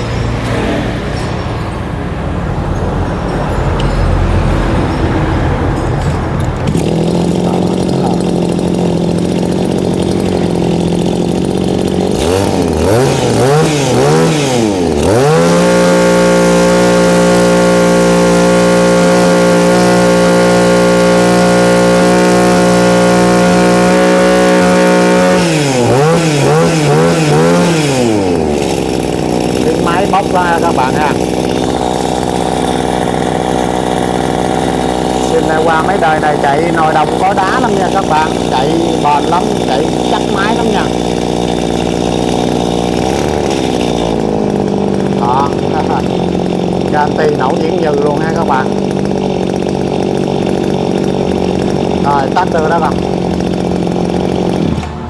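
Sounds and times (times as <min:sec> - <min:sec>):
brush cutter engine revving: 0:00.0 - 0:55.0.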